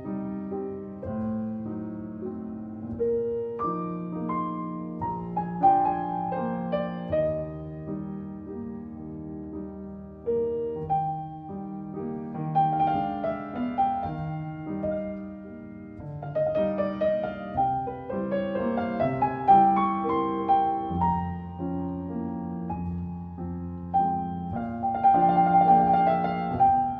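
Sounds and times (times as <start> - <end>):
piano music: 0.0 - 26.9.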